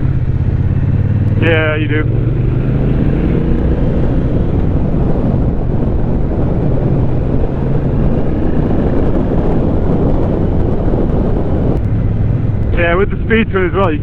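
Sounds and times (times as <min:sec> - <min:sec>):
motorcycle engine running: 0:00.0 - 0:14.0
wind on microphone: 0:00.0 - 0:14.0.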